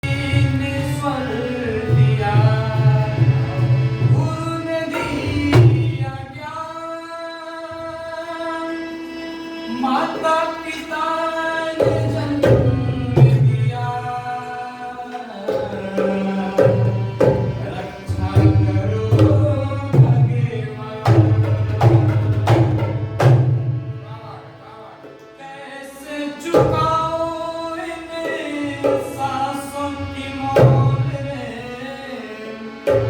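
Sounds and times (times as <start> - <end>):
person singing: 0.0 - 22.6, 24.0 - 33.0
tabla: 0.0 - 33.0.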